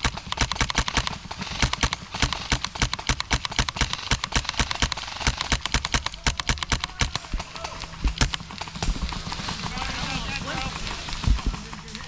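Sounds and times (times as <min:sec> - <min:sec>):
running footsteps: 0:00.0 - 0:12.0.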